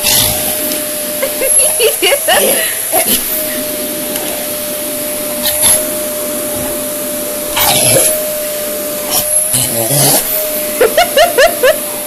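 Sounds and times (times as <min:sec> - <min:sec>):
vacuum cleaner whining: 0:00.0 - 0:12.0.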